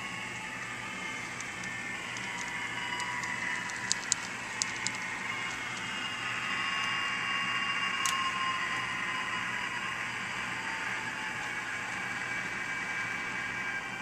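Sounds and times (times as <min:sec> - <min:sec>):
model locomotive whine: 0:00.0 - 0:14.0.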